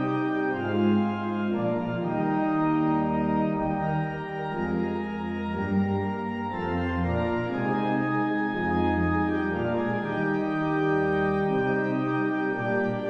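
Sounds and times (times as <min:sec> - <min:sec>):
organ-like chords music: 0:00.0 - 0:13.0.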